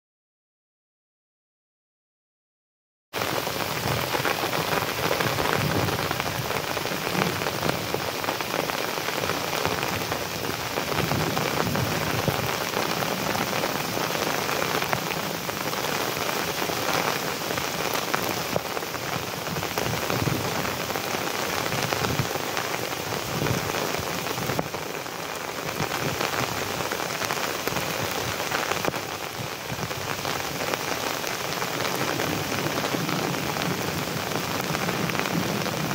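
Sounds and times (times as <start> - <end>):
heavy rain: 3.2 - 35.9.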